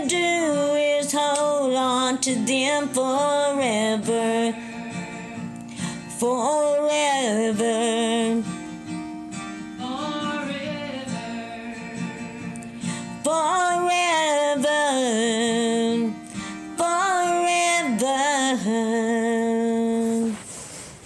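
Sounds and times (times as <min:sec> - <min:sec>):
person singing with vibrato: 0:00.0 - 0:08.8, 0:09.6 - 0:20.6
acoustic guitar accompaniment: 0:00.0 - 0:21.0.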